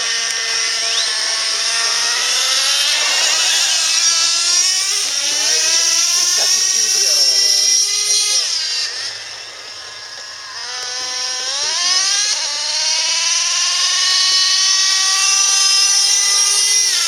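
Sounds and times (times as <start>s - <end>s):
electric toy car motor whining: 0.0s - 17.0s.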